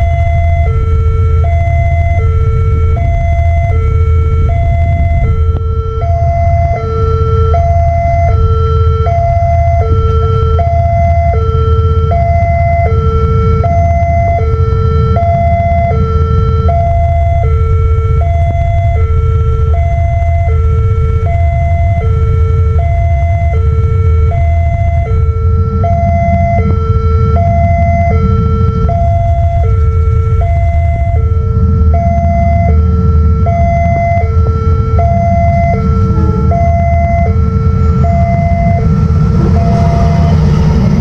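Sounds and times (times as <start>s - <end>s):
steady low rumble: 0.0s - 41.0s
two-tone crossing warning siren: 0.0s - 41.0s.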